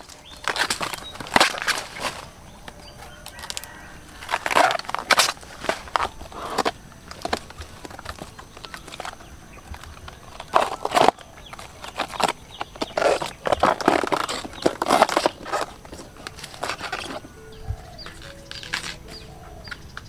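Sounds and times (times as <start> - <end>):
banana trunk tearing and snapping: 0.0 - 19.8.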